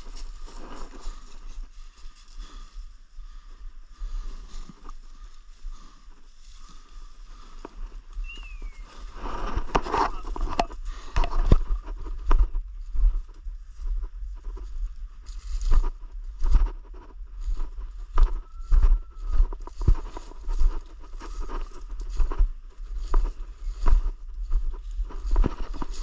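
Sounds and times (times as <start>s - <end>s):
rustling in dry leaves: 0.0s - 26.0s
wind rumble on microphone: 0.0s - 26.0s.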